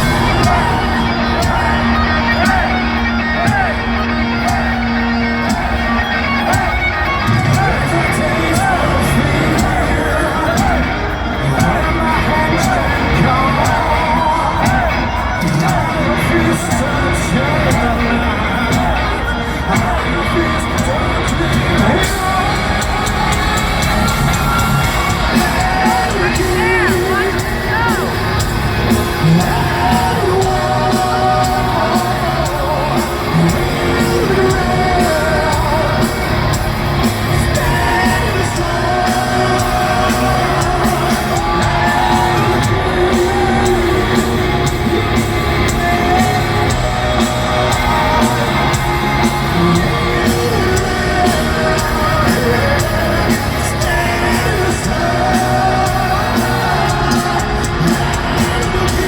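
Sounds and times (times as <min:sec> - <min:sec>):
crowd yelling: 0:00.0 - 0:59.0
distorted electric guitars: 0:00.0 - 0:59.0
driving drums: 0:00.0 - 0:59.0
person singing: 0:00.0 - 0:59.0.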